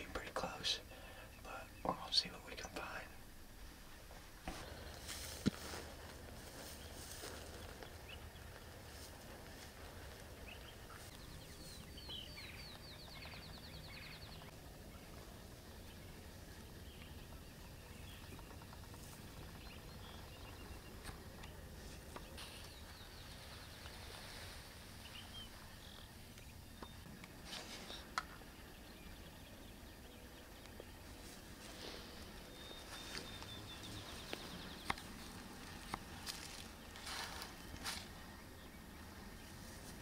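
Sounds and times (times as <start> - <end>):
birds chirping: 0.0 - 40.0
low wind rumble: 0.0 - 40.0.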